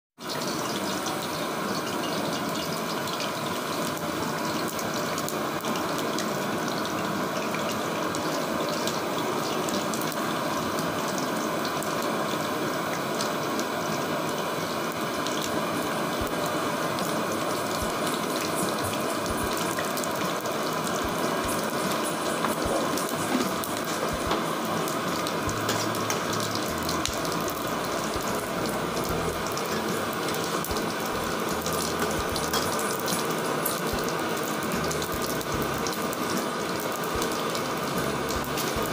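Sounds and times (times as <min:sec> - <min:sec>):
spices sizzling in hot oil: 0:00.2 - 0:38.9.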